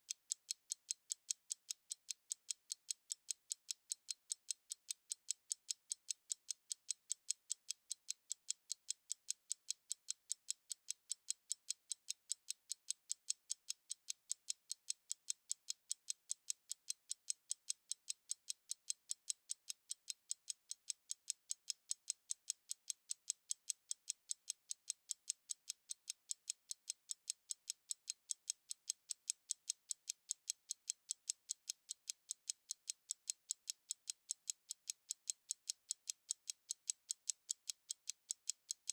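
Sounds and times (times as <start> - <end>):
stopwatch ticking: 0.0 - 38.9.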